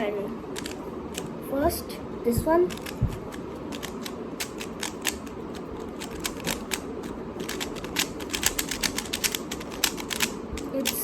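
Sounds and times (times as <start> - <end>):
puzzle cube clicking: 0.5 - 1.3, 2.7 - 11.0.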